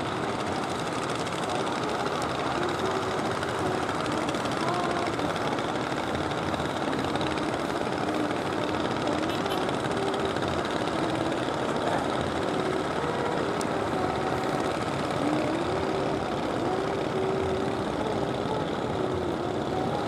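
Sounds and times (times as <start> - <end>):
fishing boat engines running: 0.0 - 20.0
wind: 0.0 - 20.0.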